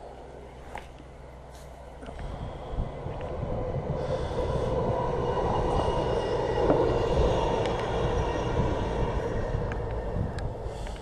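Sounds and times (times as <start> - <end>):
vehicle passing rumble: 0.0 - 11.0.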